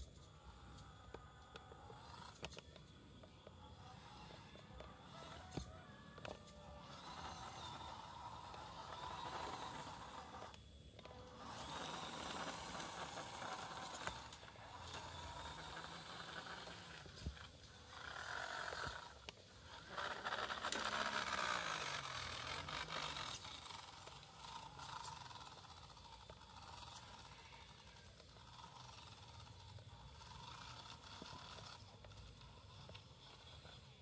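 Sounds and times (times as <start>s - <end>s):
small electric motor whining: 0.0s - 34.0s
tyres scraping over rough concrete: 4.5s - 34.0s.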